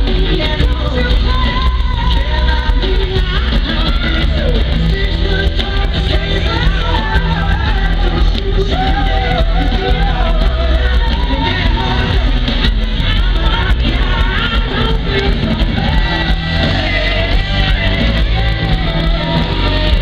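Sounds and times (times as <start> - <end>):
live rock band: 0.0 - 20.0
man singing: 0.0 - 20.0
strong bass: 0.0 - 20.0.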